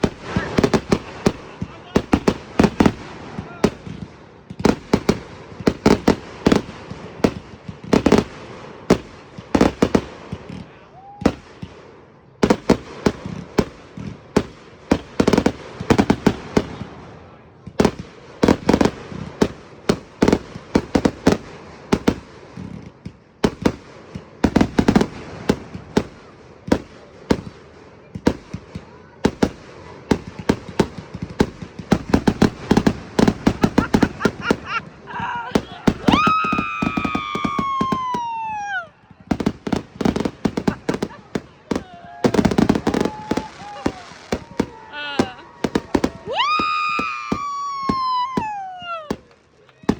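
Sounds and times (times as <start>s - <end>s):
fireworks bangs and pops: 0.0s - 49.9s.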